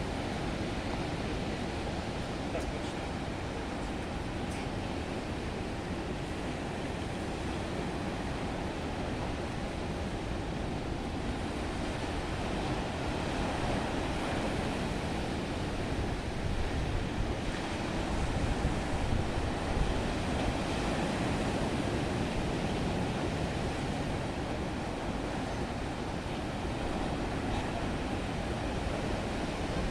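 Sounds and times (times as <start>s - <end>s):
surf washing onto shore: 0.0s - 29.9s.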